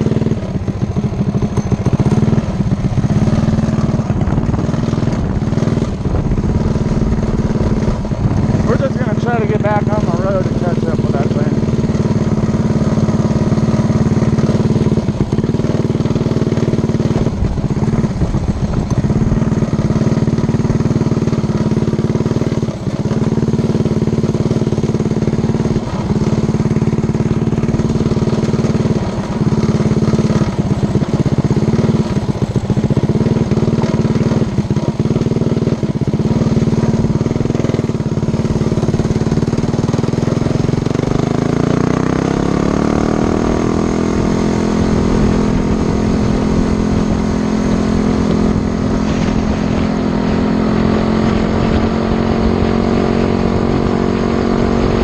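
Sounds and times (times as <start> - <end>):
mini bike engine revving: 0.0 - 55.0.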